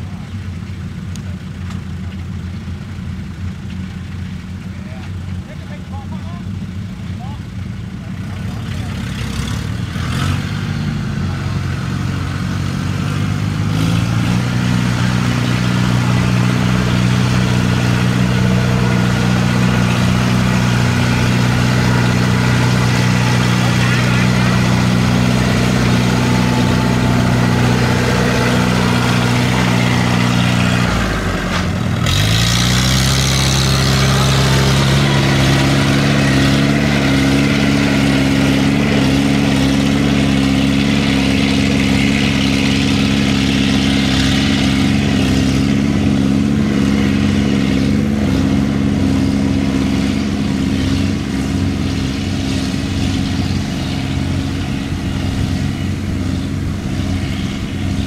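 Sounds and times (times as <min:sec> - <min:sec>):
small cart engine running: 0:00.0 - 0:58.0.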